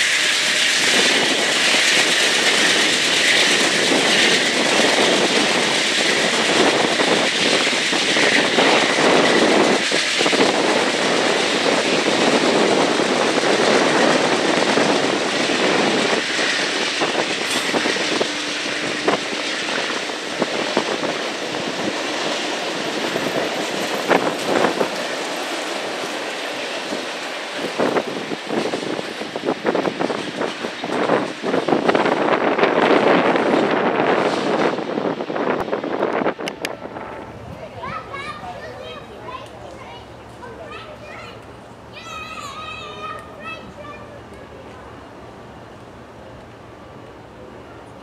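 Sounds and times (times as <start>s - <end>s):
train wheels rushing on rails: 0.0s - 48.0s.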